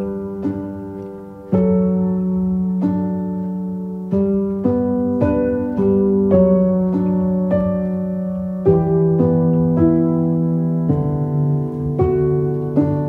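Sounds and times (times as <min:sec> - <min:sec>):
gentle instrumental music: 0:00.0 - 0:13.0.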